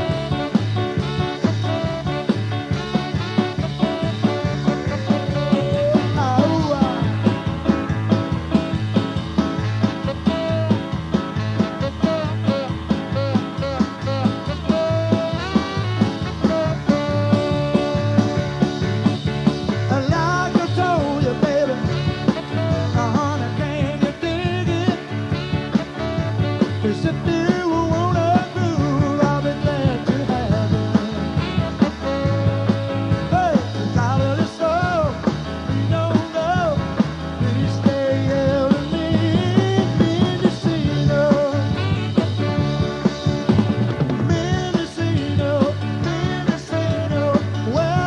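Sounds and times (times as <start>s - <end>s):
live country-rock band playing: 0.0s - 48.0s.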